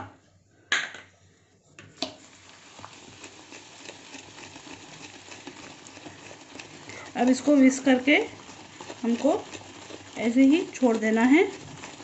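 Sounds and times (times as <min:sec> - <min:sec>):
whisk swishing in plastic bowl: 0:02.2 - 0:12.0.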